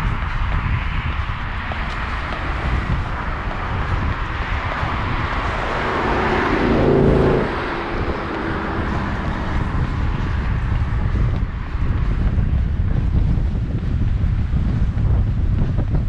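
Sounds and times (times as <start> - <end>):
motor vehicle passing: 0.0 - 15.4
wind rumble on microphone: 0.0 - 16.0.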